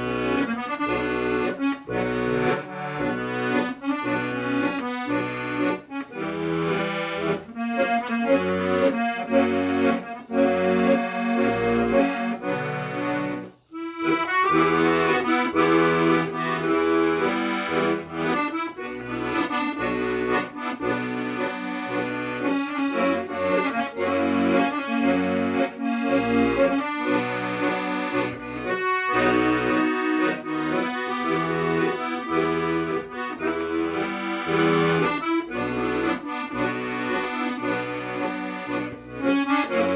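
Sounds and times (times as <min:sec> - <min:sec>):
instrumental music with bass line: 0:00.0 - 0:39.9.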